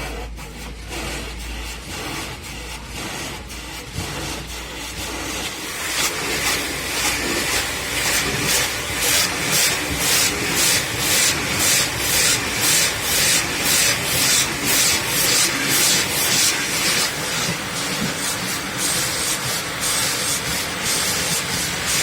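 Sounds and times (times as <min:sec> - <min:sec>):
rhythmic hissing swish of washing: 0:00.0 - 0:22.0.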